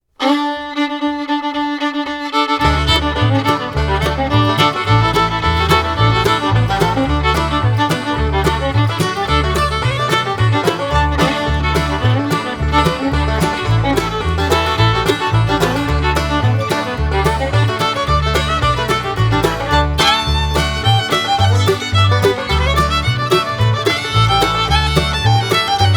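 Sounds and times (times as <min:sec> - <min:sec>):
upbeat bluegrass music with fiddle: 0:00.2 - 0:25.9.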